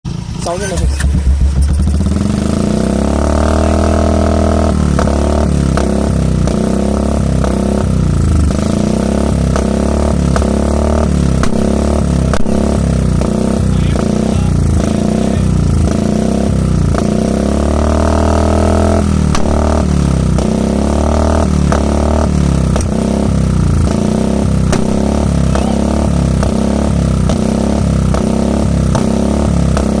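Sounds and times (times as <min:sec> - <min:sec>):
motorcycle engine revving: 0:00.1 - 0:30.0
exhaust pops: 0:00.4 - 0:02.6, 0:03.6 - 0:17.2, 0:18.1 - 0:20.8, 0:21.4 - 0:30.0.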